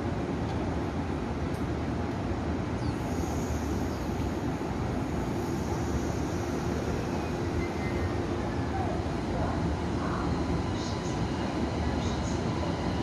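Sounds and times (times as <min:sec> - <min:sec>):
high-pitched train inverter whine: 0:02.3 - 0:13.0.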